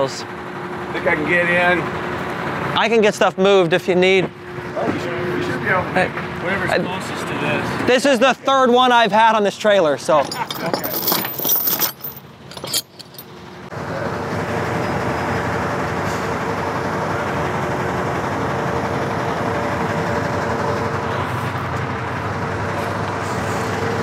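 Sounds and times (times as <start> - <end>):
forklift engine running: 0.0 - 8.7, 12.0 - 24.0.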